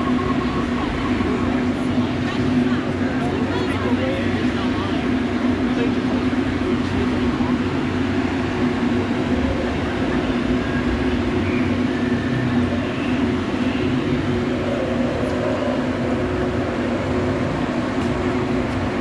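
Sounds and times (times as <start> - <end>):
low mechanical hum: 0.0 - 19.0
rushing background noise: 0.0 - 19.0.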